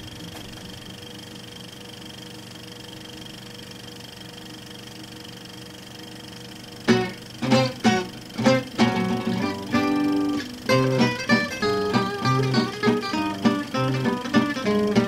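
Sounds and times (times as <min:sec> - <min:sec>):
mechanical whirring hum: 0:00.0 - 0:15.0.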